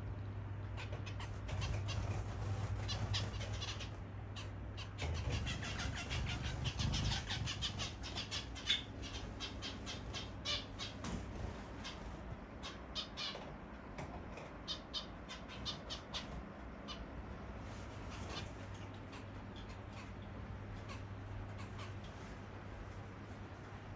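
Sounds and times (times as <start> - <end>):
steady low hum: 0.0 - 23.9
finches calling: 0.7 - 13.5, 14.6 - 17.2, 18.0 - 22.3.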